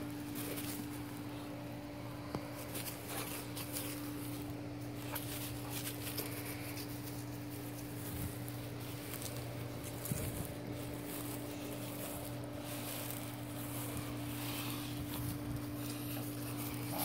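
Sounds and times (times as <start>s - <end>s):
rustles and ticks: 0.0s - 17.0s.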